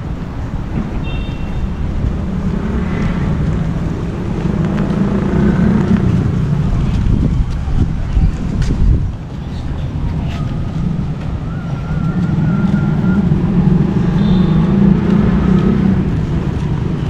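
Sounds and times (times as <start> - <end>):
wind on microphone: 0.0 - 17.0
vehicle passing by: 1.6 - 8.6, 9.8 - 17.0.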